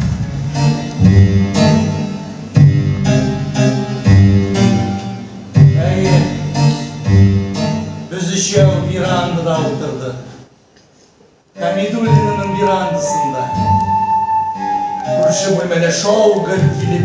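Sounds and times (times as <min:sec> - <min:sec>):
keyboard chords over bass notes: 0:00.0 - 0:09.8, 0:11.8 - 0:15.7.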